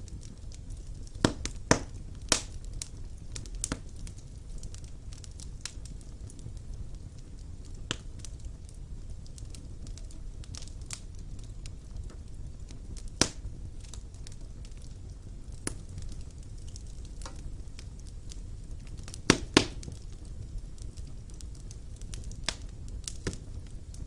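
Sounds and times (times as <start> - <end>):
fire crackling and popping: 0.0 - 24.0
wood fire rumble: 0.0 - 24.0.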